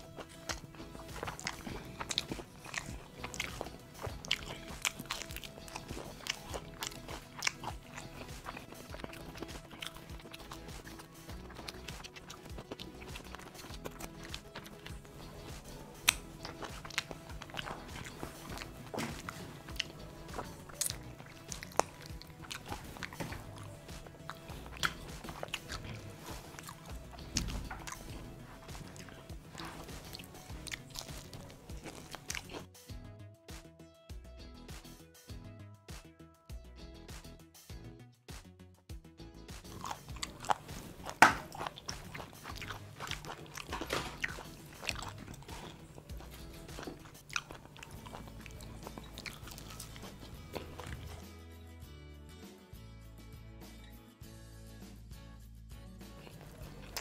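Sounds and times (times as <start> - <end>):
crunching and chewing fried chicken: 0.0 - 32.8, 39.5 - 51.4, 56.0 - 57.0
background music: 0.0 - 57.0.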